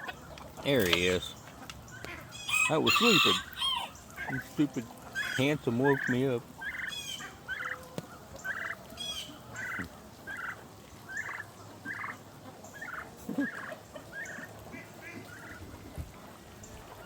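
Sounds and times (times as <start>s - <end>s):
young turkeys calling: 0.0s - 17.0s.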